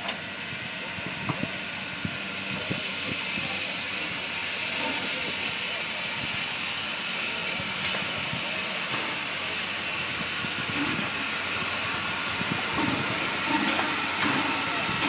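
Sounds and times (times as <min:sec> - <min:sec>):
steam hissing: 0:02.2 - 0:15.0.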